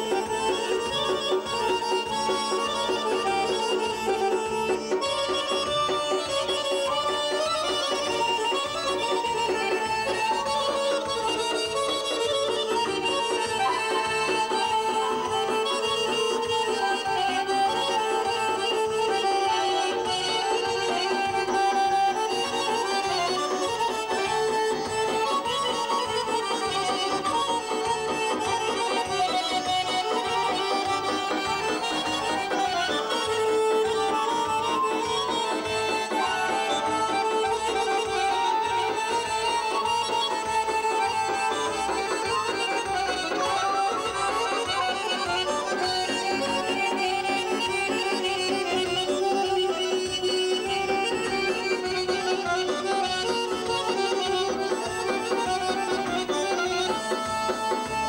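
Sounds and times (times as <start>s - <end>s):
button accordions playing folk melody: 0.0s - 58.0s.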